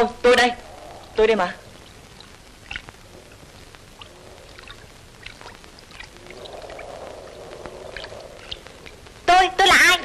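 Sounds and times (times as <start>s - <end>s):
faint clicks and crackles: 0.0s - 10.0s
faint low hum: 0.0s - 10.0s
film soundtrack hiss: 0.0s - 10.0s.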